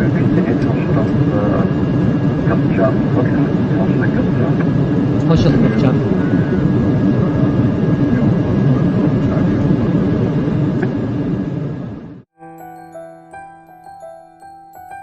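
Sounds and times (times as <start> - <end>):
rushing cockpit noise: 0.0 - 12.2.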